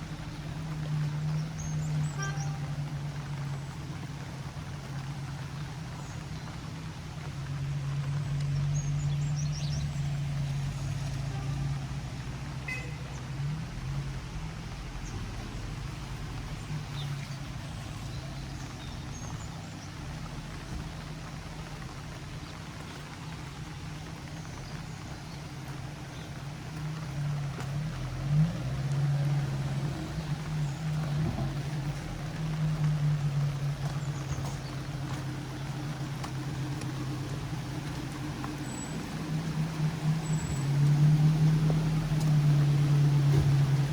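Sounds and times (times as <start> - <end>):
birds chirping: 0.0 - 43.9
rain hissing: 0.0 - 43.9.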